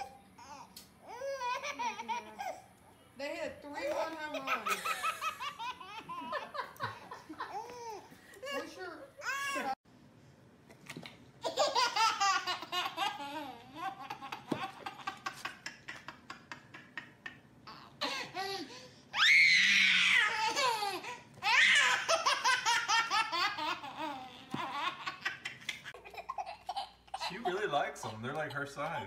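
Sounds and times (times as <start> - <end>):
baby laughing: 0.0 - 2.6, 3.9 - 9.8, 11.4 - 18.8, 20.1 - 29.0.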